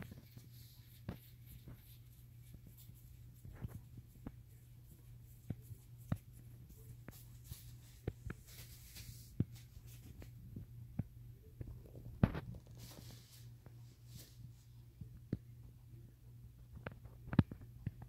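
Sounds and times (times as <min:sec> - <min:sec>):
soft rustling: 0:00.0 - 0:15.2
steady low hum: 0:00.0 - 0:18.0.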